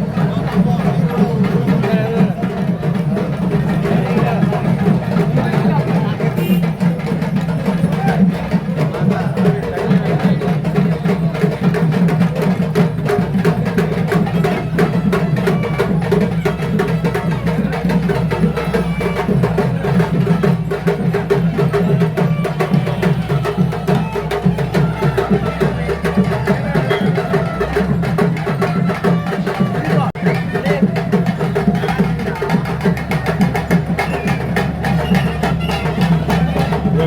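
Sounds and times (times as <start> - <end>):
fast percussion drumming: 0.0 - 37.0.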